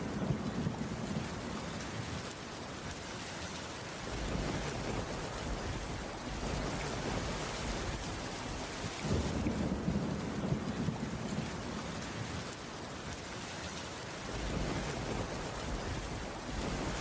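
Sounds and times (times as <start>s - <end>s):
rain on a wooden roof: 0.0s - 17.0s.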